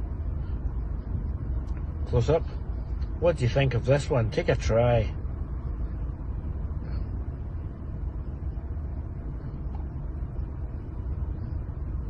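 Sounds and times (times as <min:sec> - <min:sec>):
car interior engine rumble: 0:00.0 - 0:12.0.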